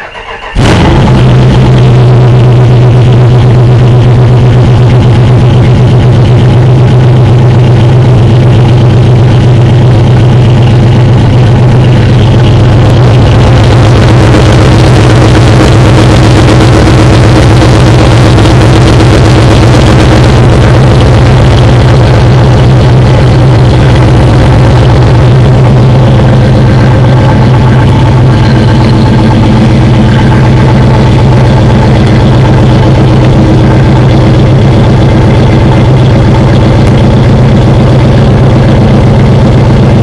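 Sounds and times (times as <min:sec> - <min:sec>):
car engine idling loudly: 0:00.0 - 0:40.0.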